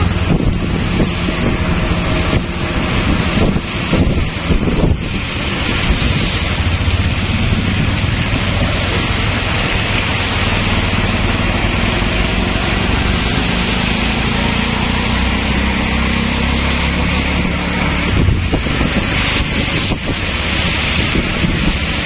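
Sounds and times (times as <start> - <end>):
auto-rickshaw engine running: 0.0 - 22.0.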